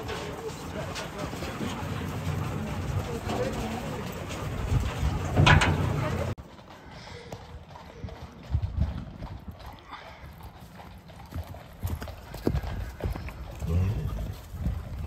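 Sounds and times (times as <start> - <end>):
horses cantering hoofbeats: 0.0 - 15.0.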